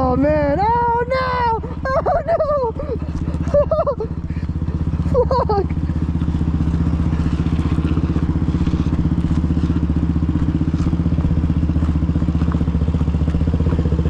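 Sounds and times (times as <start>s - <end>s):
dirt bike engine idling: 0.0s - 14.0s.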